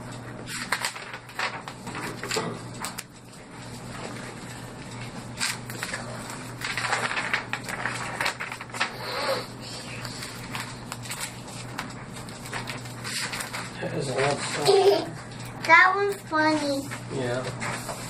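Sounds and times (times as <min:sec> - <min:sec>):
paper rustling and crinkling: 0:00.2 - 0:18.0.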